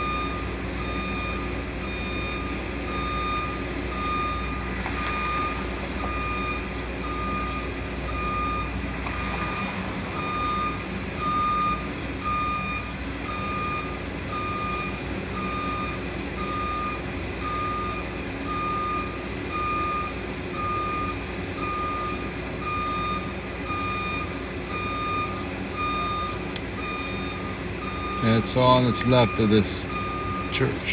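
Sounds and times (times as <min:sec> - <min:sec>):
backup alarm beeping: 0:00.0 - 0:30.9
machinery rumble: 0:00.0 - 0:30.9.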